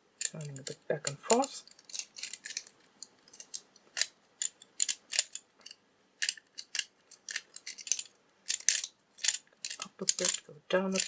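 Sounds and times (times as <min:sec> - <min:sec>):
metal pick scraping inside padlock: 0:00.2 - 0:02.7, 0:03.3 - 0:11.0.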